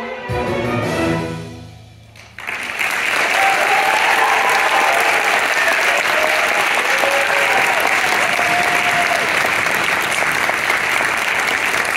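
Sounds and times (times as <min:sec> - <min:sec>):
audience applauding: 0:02.2 - 0:11.9.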